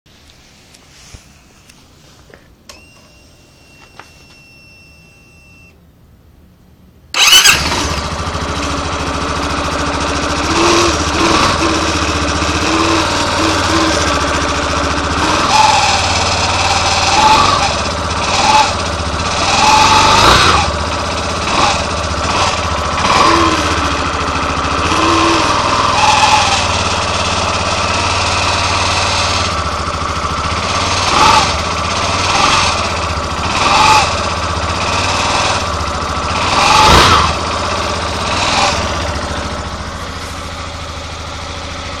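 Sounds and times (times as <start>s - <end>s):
motorcycle engine idling: 7.2s - 42.0s.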